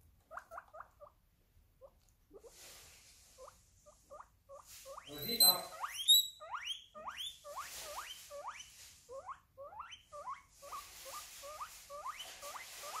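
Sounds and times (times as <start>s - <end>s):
guinea pig wheeking: 0.0s - 1.2s, 1.8s - 2.6s, 3.3s - 13.0s.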